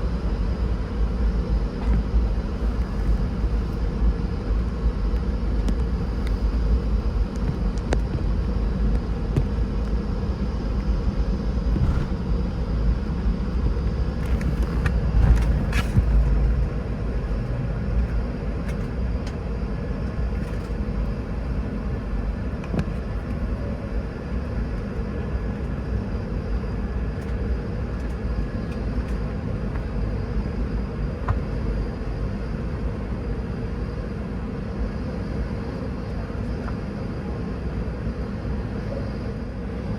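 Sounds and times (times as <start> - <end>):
aircraft engine low rumble: 0.0 - 39.9
steady hum: 0.0 - 39.9.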